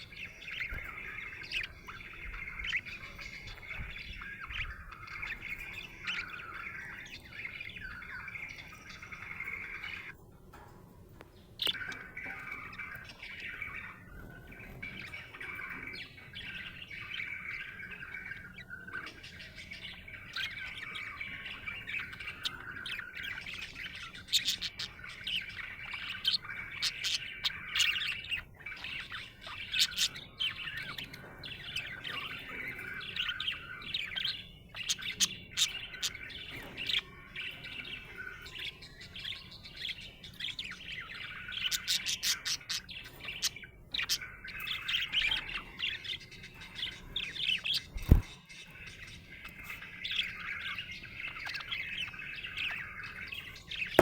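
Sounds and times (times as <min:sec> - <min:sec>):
budgerigar chirping and warbling: 0:00.0 - 0:10.1, 0:11.6 - 0:54.0.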